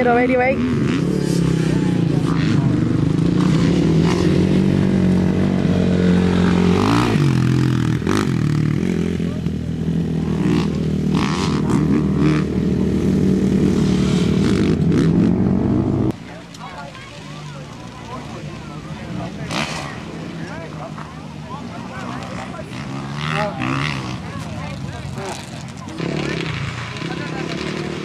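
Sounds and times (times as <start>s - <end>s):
quad engine revving: 0.0s - 16.2s, 19.0s - 20.2s, 22.0s - 28.0s.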